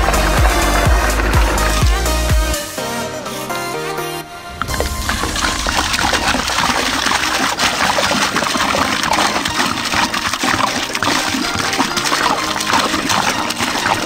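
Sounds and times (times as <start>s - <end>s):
soda pouring and splashing: 0.0s - 2.2s, 4.5s - 14.0s.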